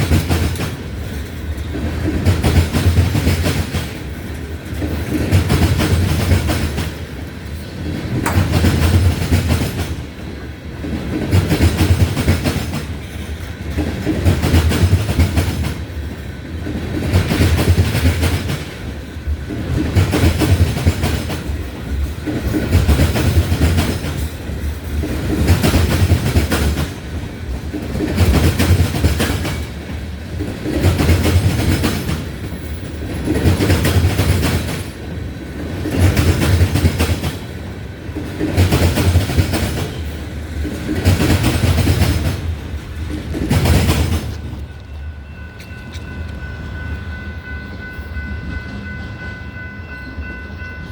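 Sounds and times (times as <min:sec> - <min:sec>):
wheels clacking over rail joints: 0:00.0 - 0:46.8.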